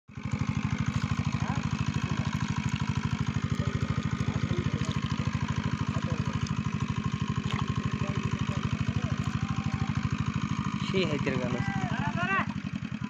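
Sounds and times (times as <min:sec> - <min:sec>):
small engine running: 0:00.1 - 0:13.0.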